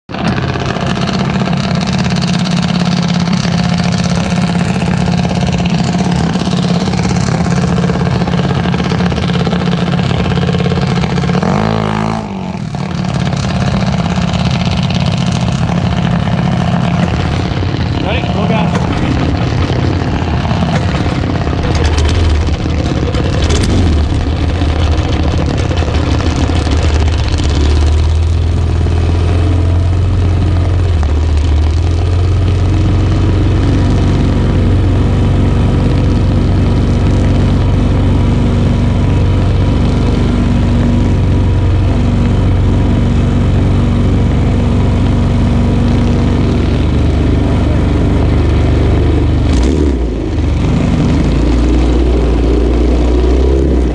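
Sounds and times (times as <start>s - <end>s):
single-cylinder engine idling: 0.1s - 53.9s.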